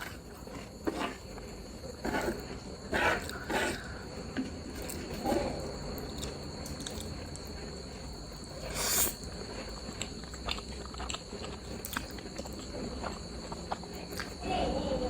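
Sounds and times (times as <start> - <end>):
person chewing and eating: 0.0 - 14.4.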